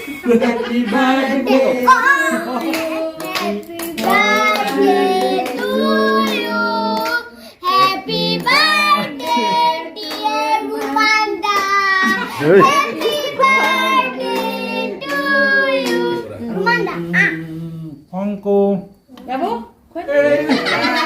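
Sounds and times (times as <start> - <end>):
child singing: 0.5 - 17.4.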